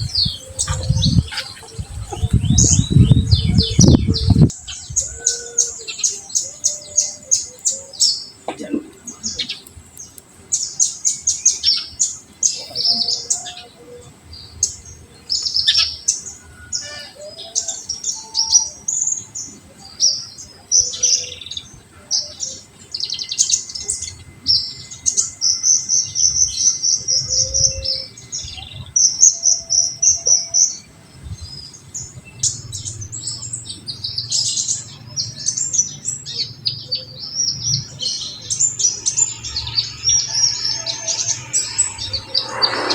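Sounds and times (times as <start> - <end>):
sunbird singing: 0.0 - 42.9.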